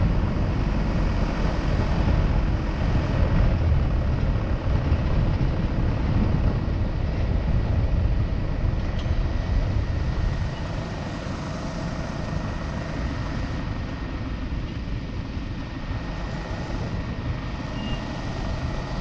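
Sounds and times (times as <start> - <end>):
vehicle road rumble: 0.0 - 19.0.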